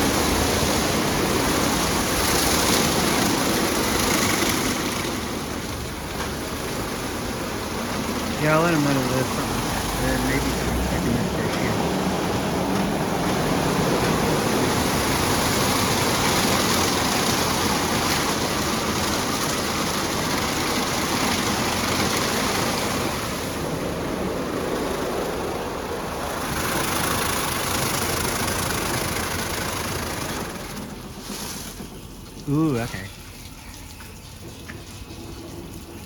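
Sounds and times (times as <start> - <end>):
car wash water spray and machinery: 0.0 - 36.0.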